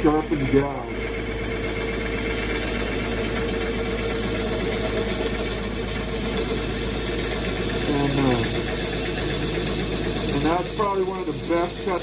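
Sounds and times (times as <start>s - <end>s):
wood lathe humming: 0.0s - 12.0s.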